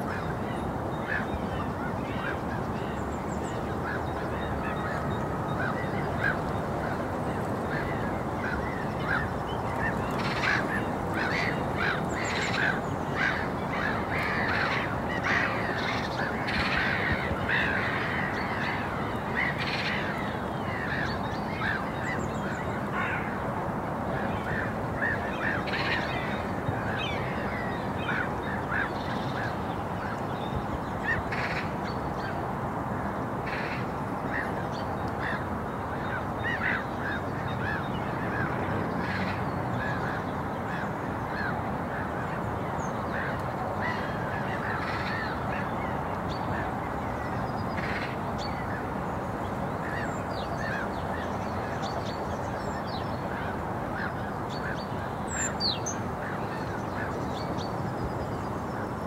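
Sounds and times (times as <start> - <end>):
flock of birds calling: 0.0 - 32.6, 33.4 - 59.0
low background noise: 0.0 - 59.0.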